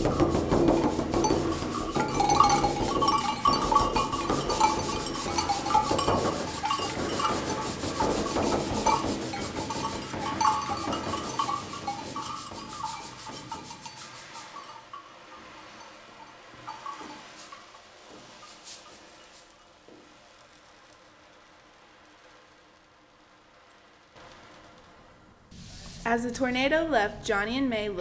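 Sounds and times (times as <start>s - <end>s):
tornado rasping and rattling: 0.0s - 26.8s.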